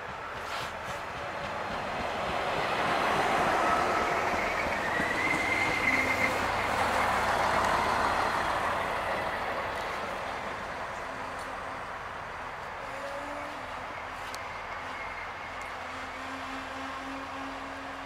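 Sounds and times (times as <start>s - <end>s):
diesel train engine passing: 0.0s - 18.0s
wheels on rails: 0.0s - 18.0s.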